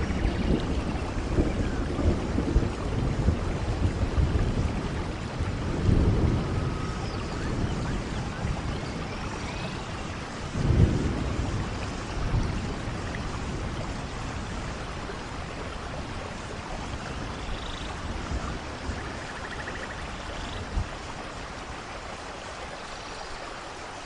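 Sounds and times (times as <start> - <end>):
low rumble of thunder: 0.0 - 22.6
soft rain falling: 0.0 - 24.0.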